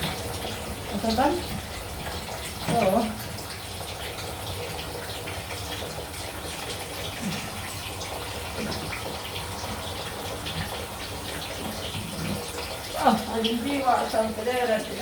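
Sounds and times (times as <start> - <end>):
water running into a bucket: 0.0 - 15.0.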